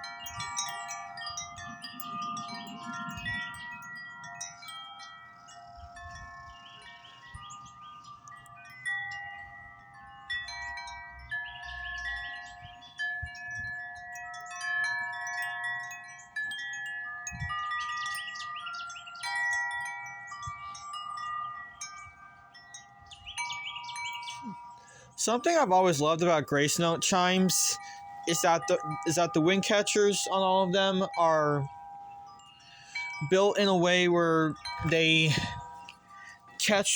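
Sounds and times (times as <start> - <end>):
wind chime ringing: 0.0 - 36.9.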